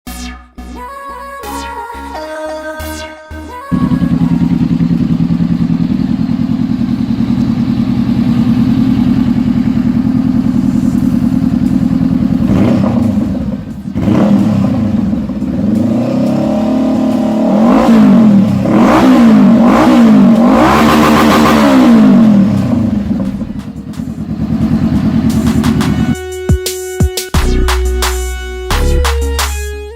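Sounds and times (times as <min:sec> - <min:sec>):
motorcycle engine idling and revving: 0:03.7 - 0:28.9.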